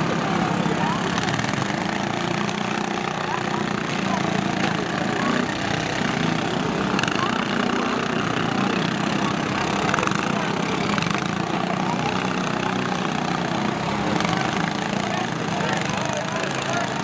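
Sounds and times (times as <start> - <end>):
lawn tractor engines running: 0.0 - 17.0.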